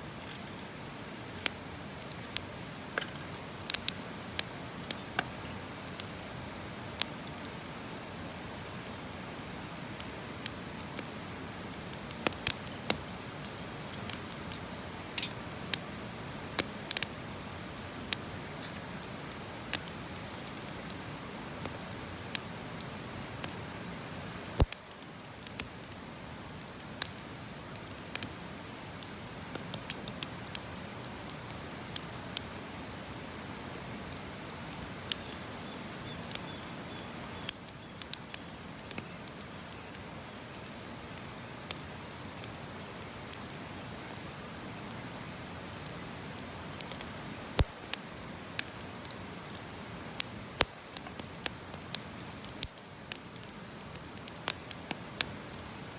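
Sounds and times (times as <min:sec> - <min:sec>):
low hiss of burning: 0:00.0 - 0:55.9
campfire pops and snaps: 0:00.2 - 0:06.2, 0:09.4 - 0:11.1, 0:11.7 - 0:15.8, 0:16.6 - 0:17.1, 0:18.0 - 0:22.6, 0:24.5 - 0:25.8, 0:26.6 - 0:48.0, 0:48.6 - 0:55.9.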